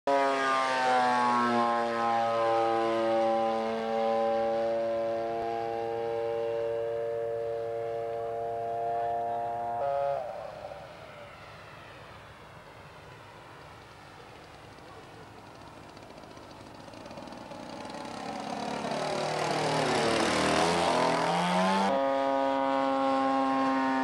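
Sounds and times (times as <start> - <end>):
model plane engine flying past: 1.4 - 24.0.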